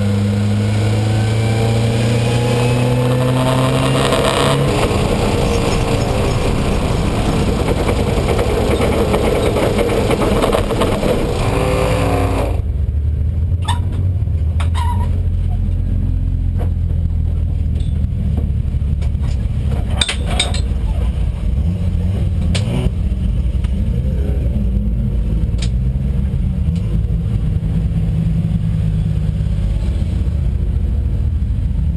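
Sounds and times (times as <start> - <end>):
race car engine drone: 0.0 - 31.9.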